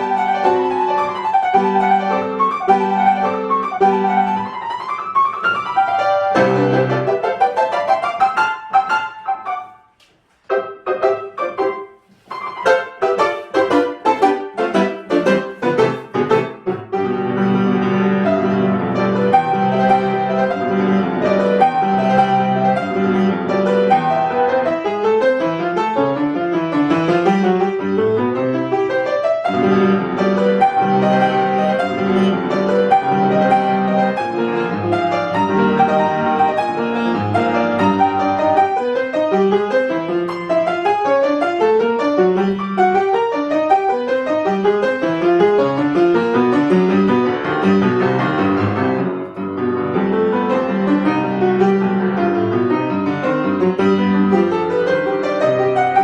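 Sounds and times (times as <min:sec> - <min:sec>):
classical piano piece: 0:00.0 - 0:56.0.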